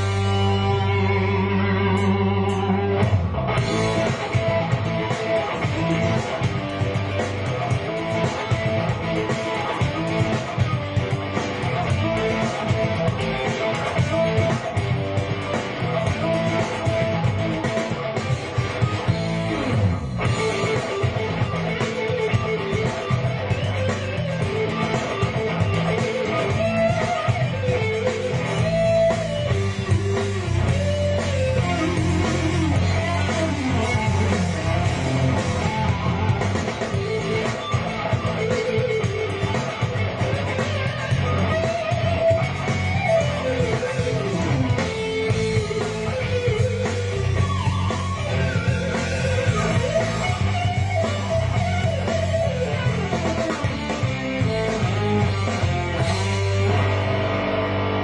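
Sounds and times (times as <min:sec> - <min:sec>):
bass line: 0:00.0 - 0:58.0
electric guitar lead melody: 0:00.0 - 0:58.0
rock band backing: 0:00.0 - 0:58.0.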